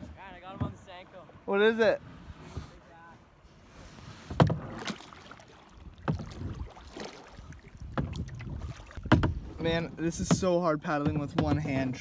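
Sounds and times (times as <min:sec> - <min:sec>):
water lapping: 0:00.0 - 0:12.0
kayak paddle splashing: 0:00.1 - 0:12.0.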